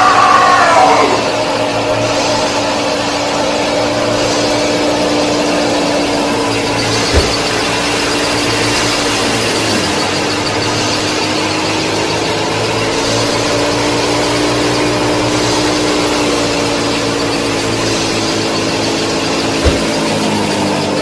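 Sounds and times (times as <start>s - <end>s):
small electric motor whine: 0.0s - 21.0s.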